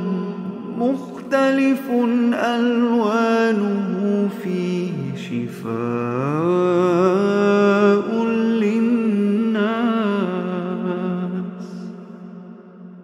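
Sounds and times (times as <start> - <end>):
person reciting melodically: 0.0 - 12.8.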